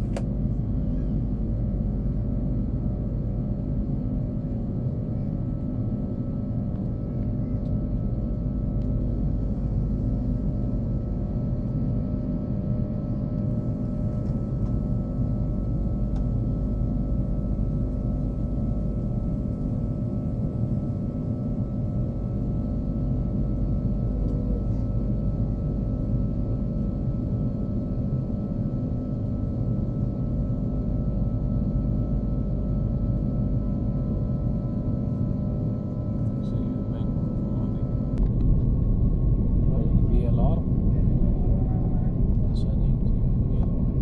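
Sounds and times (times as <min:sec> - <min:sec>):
airliner cabin drone: 0:00.0 - 0:44.0.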